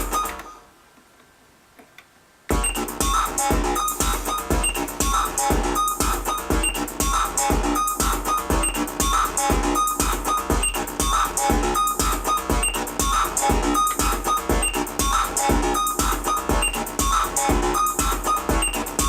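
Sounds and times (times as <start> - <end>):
drum machine kick beat: 0.0 - 0.5, 2.5 - 19.0
synthesizer pattern: 0.0 - 0.5, 2.5 - 19.0.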